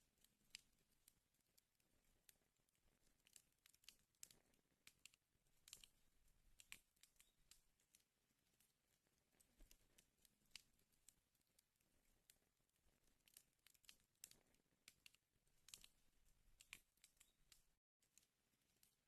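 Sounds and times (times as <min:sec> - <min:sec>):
wood fire crackling: 0:00.2 - 0:17.7.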